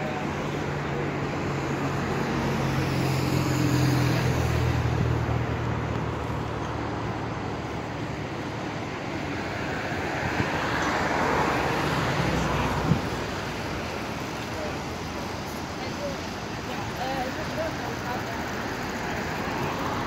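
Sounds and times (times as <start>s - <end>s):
vehicle engine hum: 0.0s - 20.0s
vehicle passing rush: 0.0s - 20.0s.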